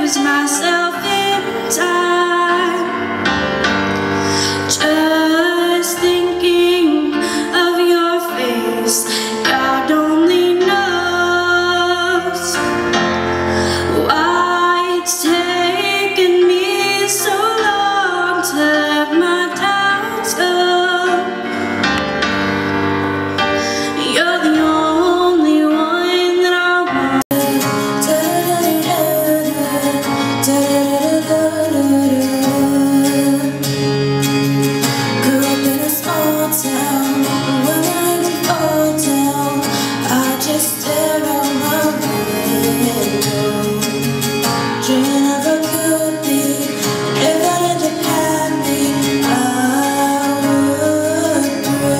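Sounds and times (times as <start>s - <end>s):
woman singing into microphone: 0.0s - 22.3s, 23.4s - 51.9s
musical accompaniment: 0.0s - 51.9s.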